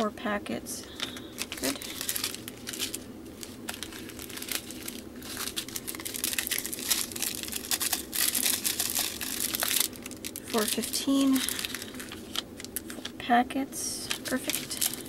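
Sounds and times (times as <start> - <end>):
plastic bags crinkling: 0.9 - 13.2, 14.0 - 15.0.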